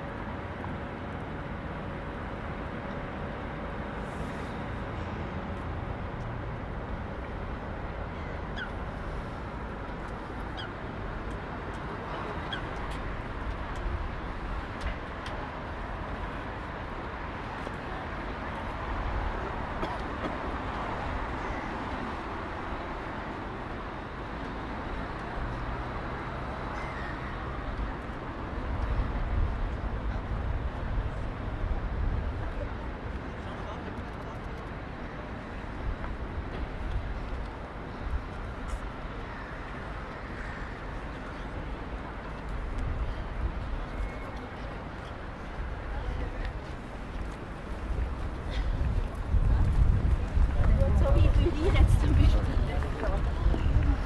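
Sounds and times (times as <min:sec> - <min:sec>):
low traffic rumble: 0:00.0 - 0:54.0.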